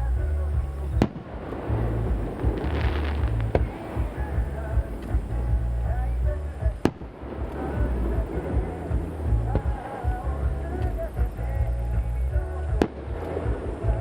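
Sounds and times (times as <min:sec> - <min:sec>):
crackling sparks: 0:00.0 - 0:14.0
music with heavy low end: 0:00.0 - 0:14.0
fireworks bangs: 0:00.5 - 0:11.4, 0:12.7 - 0:14.0.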